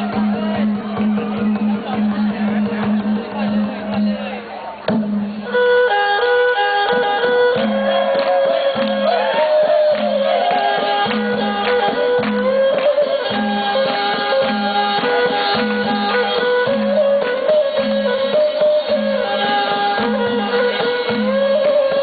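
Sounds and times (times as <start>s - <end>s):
drum and hand percussion beats: 0.0s - 22.0s
wavering folk melody: 0.0s - 22.0s.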